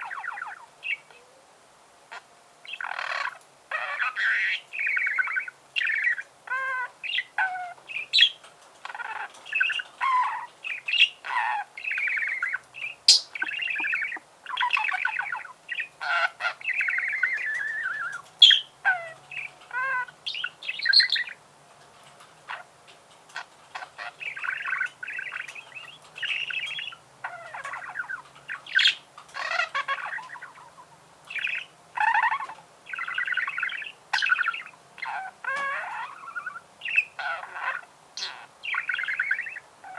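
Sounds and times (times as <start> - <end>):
budgerigar warbling: 2.1 - 21.4, 23.4 - 39.9.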